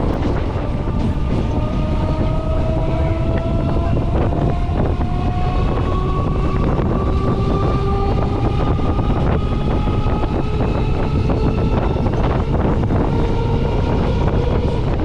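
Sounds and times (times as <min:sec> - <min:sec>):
rising whine: 0:00.0 - 0:15.0
train rumbling past: 0:00.0 - 0:15.0
wind buffeting microphone: 0:00.0 - 0:15.0.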